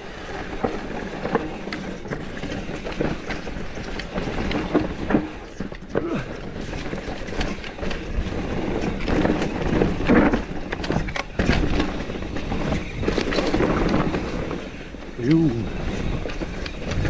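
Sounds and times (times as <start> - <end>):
bike rattling and knocking: 0.0 - 17.0.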